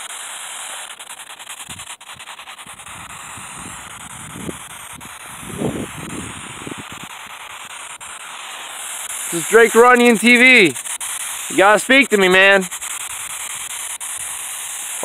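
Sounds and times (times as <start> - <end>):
fast flutter: 0.0 - 15.0
steady hiss: 0.0 - 15.0.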